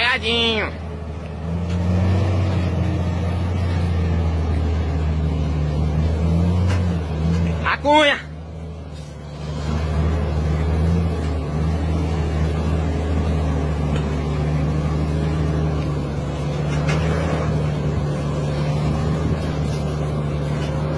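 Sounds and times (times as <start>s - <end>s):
heavy truck diesel engine: 0.0s - 20.9s.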